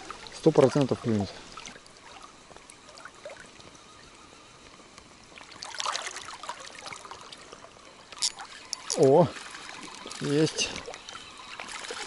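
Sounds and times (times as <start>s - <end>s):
crackly splashing: 0.0s - 12.0s
river water trickling: 0.0s - 12.0s.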